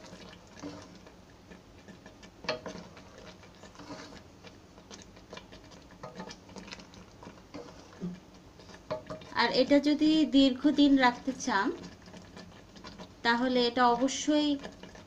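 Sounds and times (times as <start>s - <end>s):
spatula scraping pan: 0.0s - 15.0s.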